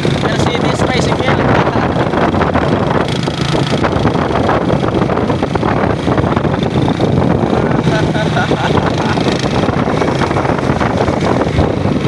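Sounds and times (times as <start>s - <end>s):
motorcycle engine drone: 0.0s - 12.0s
road noise: 0.0s - 12.0s.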